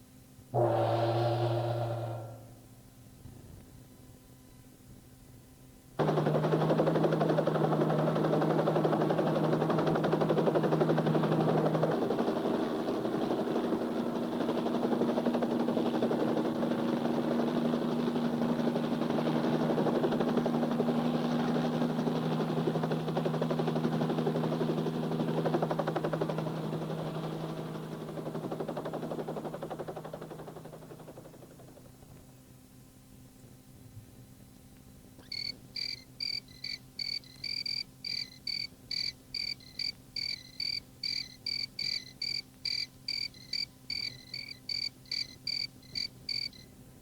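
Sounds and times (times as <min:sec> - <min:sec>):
mechanical running with flutter: 0:06.0 - 0:32.3, 0:35.2 - 0:46.7.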